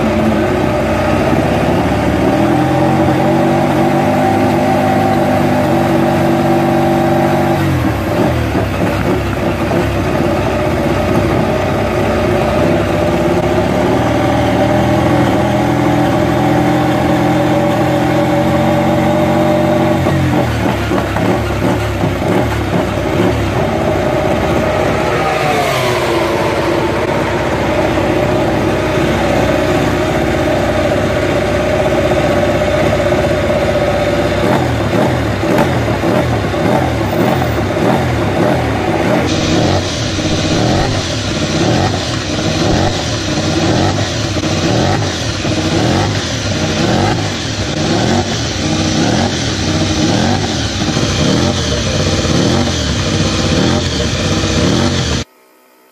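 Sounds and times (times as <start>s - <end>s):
engine throttle blips: 0.0s - 55.3s
motorcycle engine idling: 7.6s - 17.7s, 20.0s - 55.2s.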